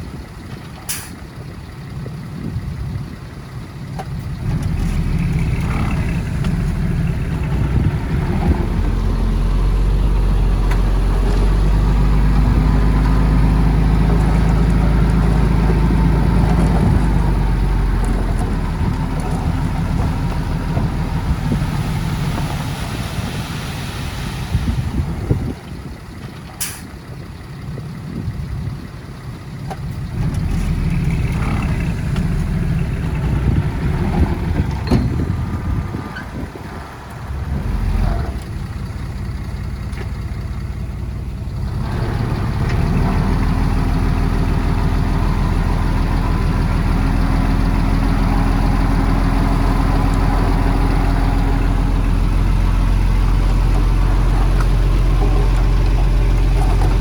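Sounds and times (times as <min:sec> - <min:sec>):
heavy equipment diesel engine: 0:00.0 - 0:57.0.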